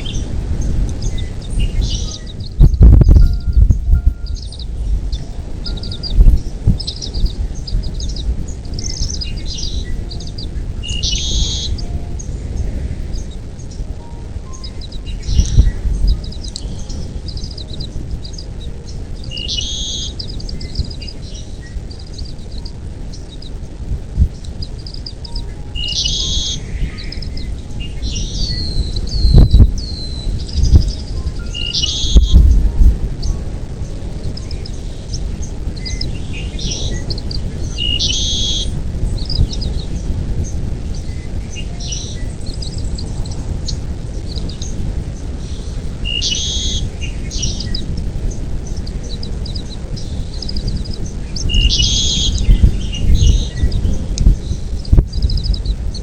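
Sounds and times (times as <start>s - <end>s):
birds chirping: 0.0s - 56.0s
buzzy bird call: 0.0s - 56.0s
low background rumble: 0.0s - 56.0s.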